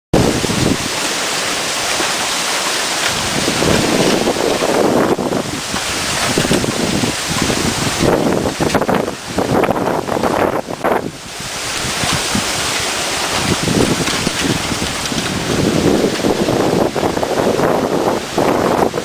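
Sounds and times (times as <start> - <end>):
strong wind on microphone: 0.1 - 1.0, 3.0 - 19.0.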